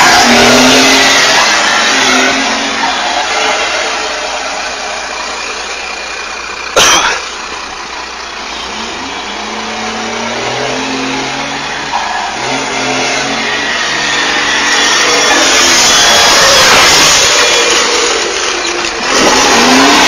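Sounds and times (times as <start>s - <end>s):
engine accelerating: 0.0s - 20.0s
road and wind rush: 0.0s - 20.0s.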